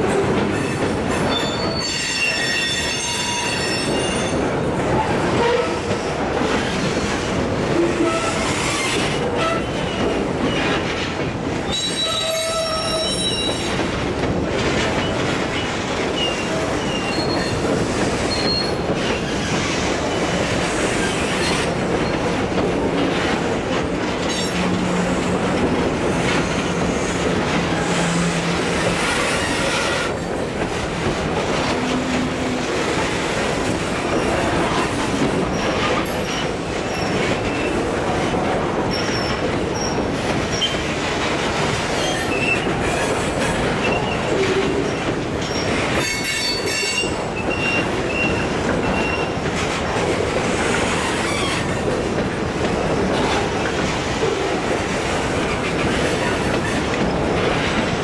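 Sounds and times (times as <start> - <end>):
train wheels rumbling over rails: 0.0 - 58.0.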